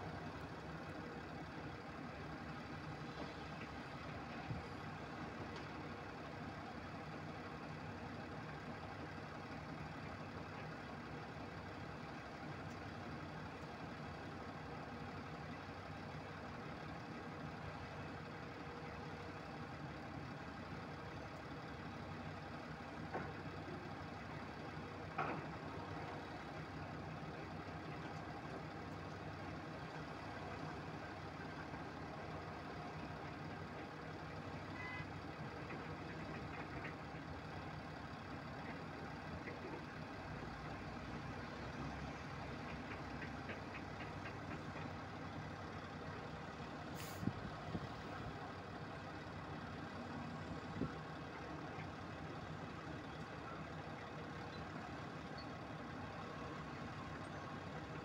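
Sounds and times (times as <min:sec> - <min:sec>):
diesel machinery idling: 0:00.0 - 0:58.0.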